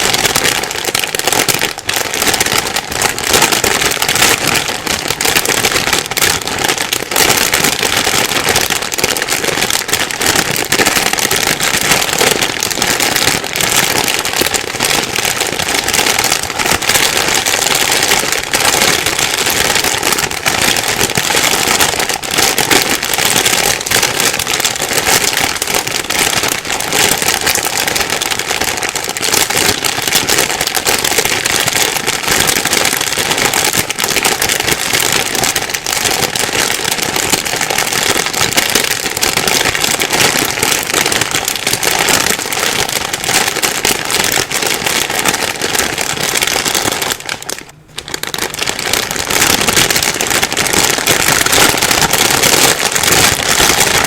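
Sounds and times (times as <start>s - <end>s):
plastic bag crinkling: 0.0s - 54.0s.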